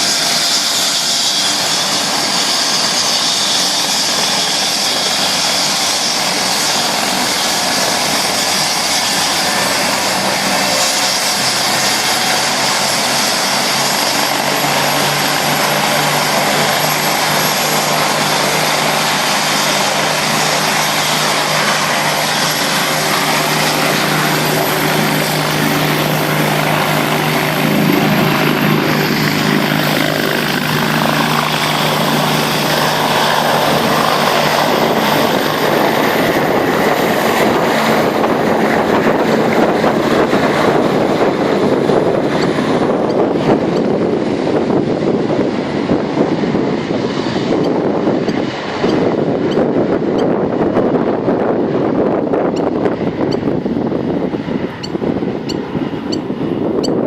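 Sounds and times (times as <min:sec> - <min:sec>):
helicopter engine and rotor noise: 0:00.0 - 0:57.0
high turbine whine: 0:00.0 - 0:57.0.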